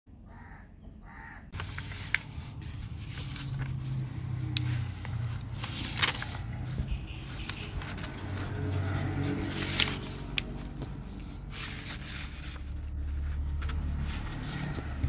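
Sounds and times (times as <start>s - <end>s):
paper crackling: 1.5s - 15.0s
paper folding and rustling: 1.5s - 15.0s.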